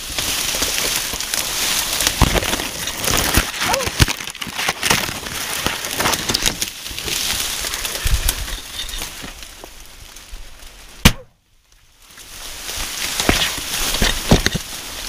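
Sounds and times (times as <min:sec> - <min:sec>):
dry stalks crackling and snapping: 0:00.0 - 0:15.0.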